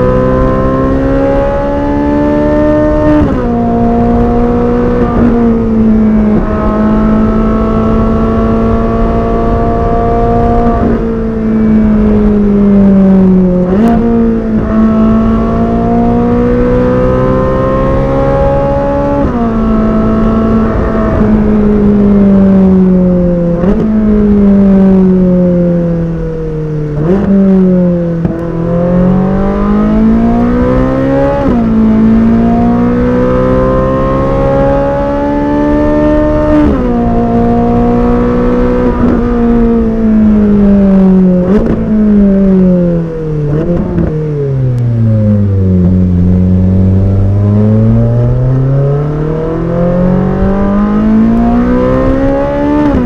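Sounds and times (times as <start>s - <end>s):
sports car engine revving: 0.0s - 53.0s.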